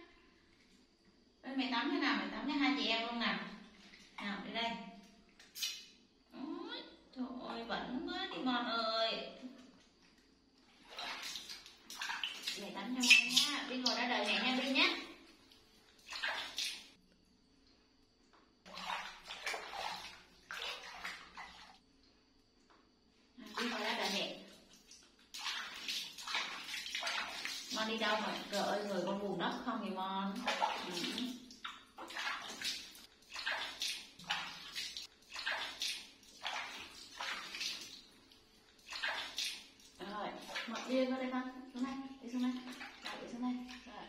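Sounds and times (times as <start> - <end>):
water splashing in a bathtub: 0.0 - 17.0, 18.6 - 22.8, 23.4 - 44.0.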